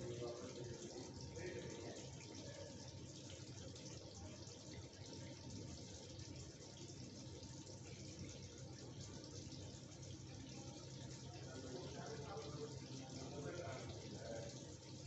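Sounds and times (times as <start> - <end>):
curry bubbling and sizzling: 0.0 - 15.0.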